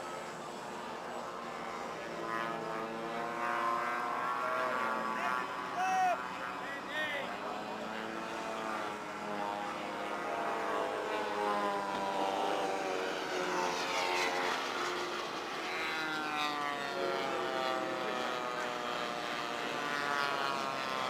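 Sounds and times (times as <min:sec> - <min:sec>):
model airplane engines droning: 0:00.0 - 0:21.0.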